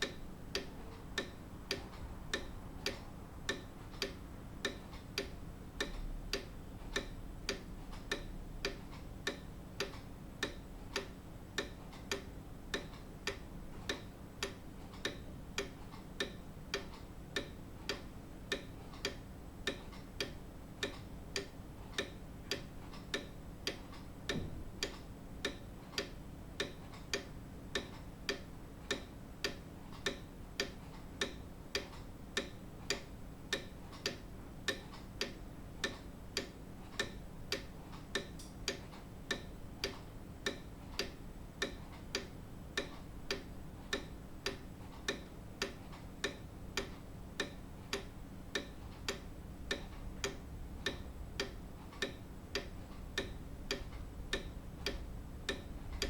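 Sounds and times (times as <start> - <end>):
grandfather clock ticking: 0.0 - 56.0.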